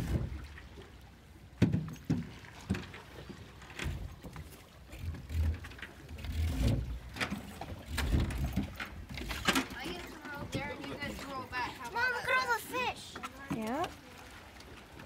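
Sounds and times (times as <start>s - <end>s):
knocks and thumps on boat: 0.0s - 0.9s, 1.5s - 14.1s.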